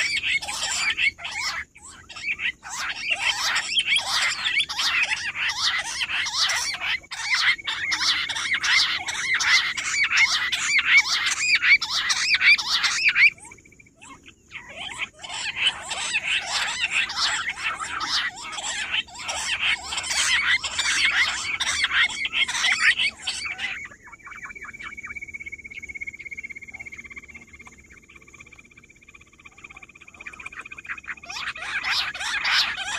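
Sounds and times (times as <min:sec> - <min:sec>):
quails chattering: 0:00.0 - 0:32.9.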